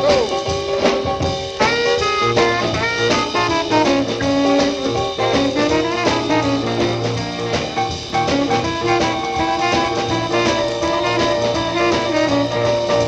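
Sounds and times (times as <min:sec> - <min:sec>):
bass line: 0:00.0 - 0:13.0
drum beat: 0:00.0 - 0:13.0
horn playing lead melody: 0:00.0 - 0:13.0.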